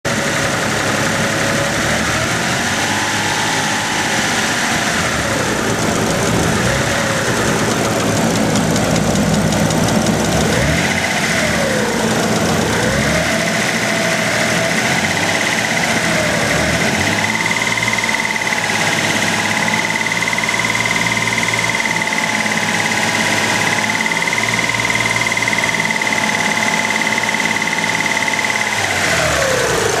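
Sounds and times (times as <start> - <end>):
car engine idling: 0.0 - 30.0
engine ticking: 0.0 - 30.0
steady high whine: 0.1 - 30.0.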